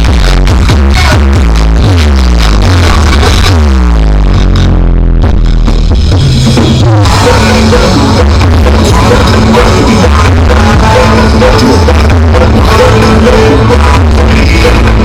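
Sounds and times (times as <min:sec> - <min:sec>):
loud bass-heavy music with drum beat: 0:00.0 - 0:15.0.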